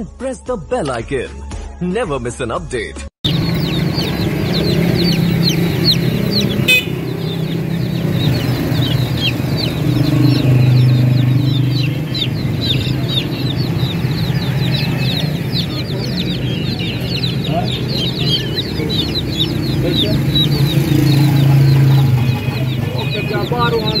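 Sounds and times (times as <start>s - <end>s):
chicks peeping: 3.2s - 24.0s.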